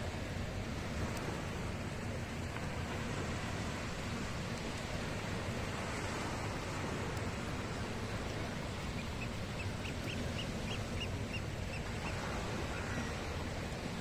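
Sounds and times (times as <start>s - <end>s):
gentle surf on shore: 0.0s - 14.0s.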